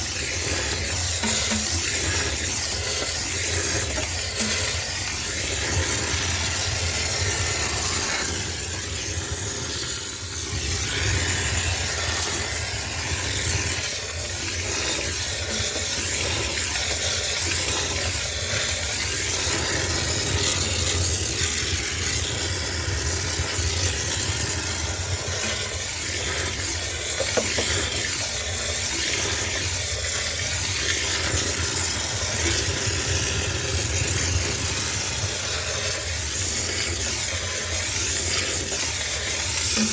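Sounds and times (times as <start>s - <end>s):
steam cleaner hissing: 0.0s - 39.9s.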